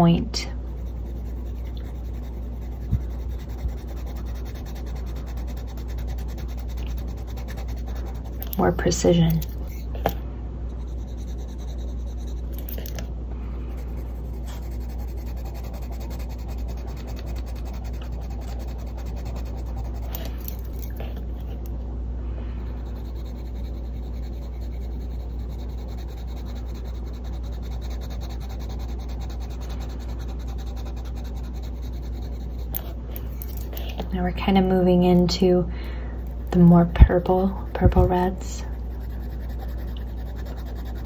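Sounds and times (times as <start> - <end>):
pencil scratching on paper: 0.0 - 9.8, 10.7 - 13.0, 13.7 - 20.8, 22.7 - 33.0, 36.9 - 41.0
low hum: 0.0 - 41.0.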